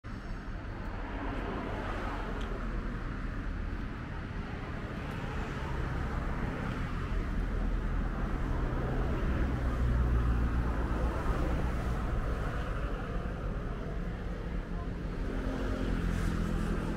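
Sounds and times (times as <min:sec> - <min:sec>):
outdoor background rumble: 0:00.1 - 0:16.9.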